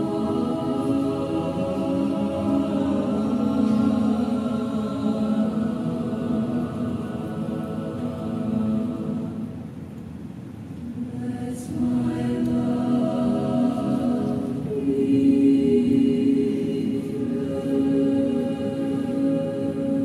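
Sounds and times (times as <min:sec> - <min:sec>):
choir singing a cappella: 0:00.0 - 0:09.8, 0:10.9 - 0:20.0.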